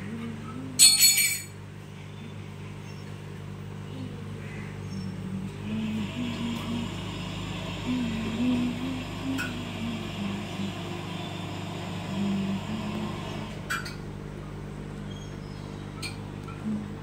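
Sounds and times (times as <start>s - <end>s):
aquarium air pump humming: 0.0s - 17.0s.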